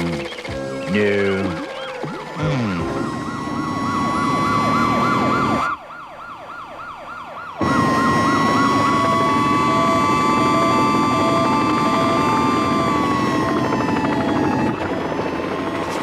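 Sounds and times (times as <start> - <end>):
cartoon police sirens yelping: 0.6 - 16.0.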